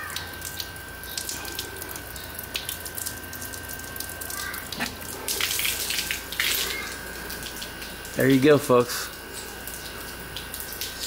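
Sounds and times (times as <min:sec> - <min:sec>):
water drips and spatters: 0:00.0 - 0:11.0
water pouring over plastic: 0:00.0 - 0:11.0.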